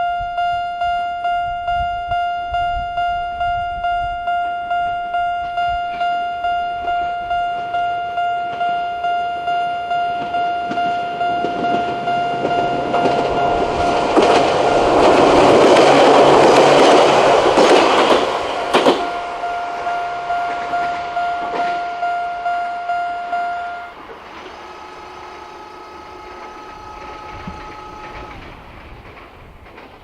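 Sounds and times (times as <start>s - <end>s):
faint steady tones: 0.0s - 29.4s
crossing warning bell: 0.0s - 29.9s
train rolling over crossing: 0.0s - 30.0s.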